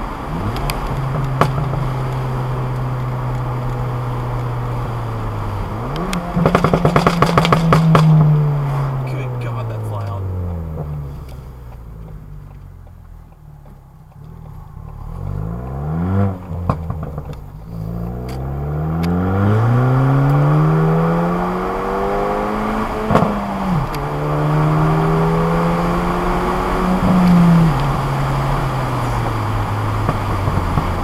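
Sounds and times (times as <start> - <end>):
car engine revving through gears: 0.0 - 31.0
exhaust crackles and pops: 0.0 - 31.0.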